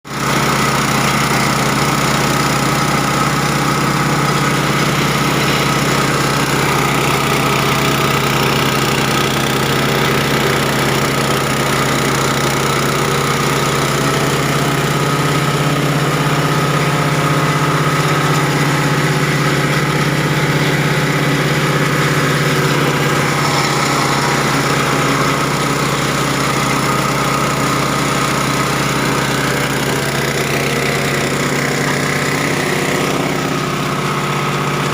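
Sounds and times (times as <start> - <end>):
grinder machine running: 0.1 - 34.9.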